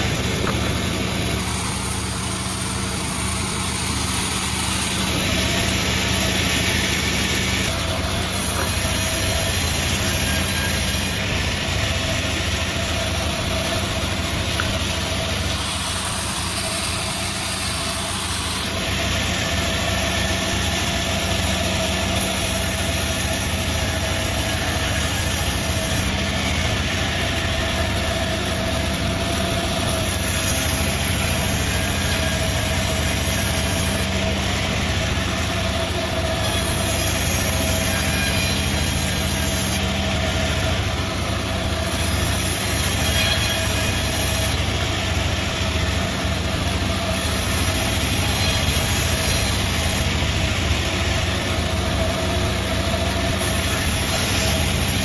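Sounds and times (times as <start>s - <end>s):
sawmill machine motor drone: 0.0s - 55.0s.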